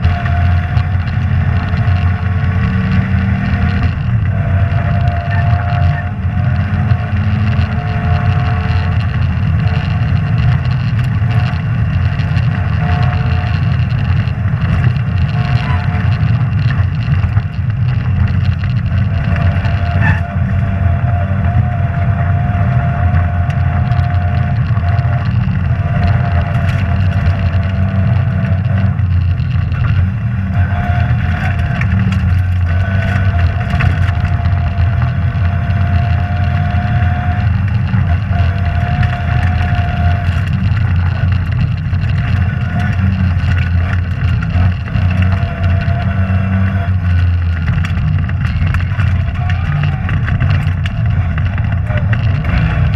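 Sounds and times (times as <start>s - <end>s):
rally car engine under load: 0.0s - 52.9s
road and tyre noise: 0.0s - 52.9s.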